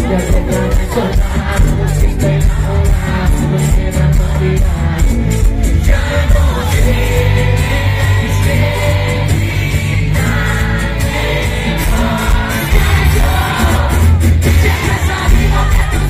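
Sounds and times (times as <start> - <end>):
live pop band through pa: 0.0 - 16.0
man singing: 0.0 - 16.0.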